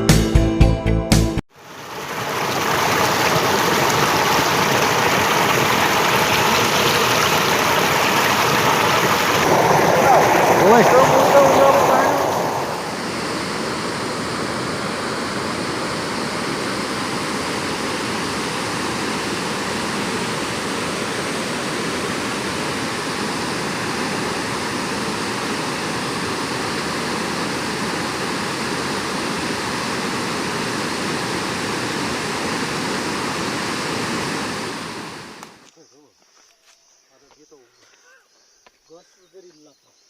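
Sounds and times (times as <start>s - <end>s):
rushing water: 1.5s - 35.5s.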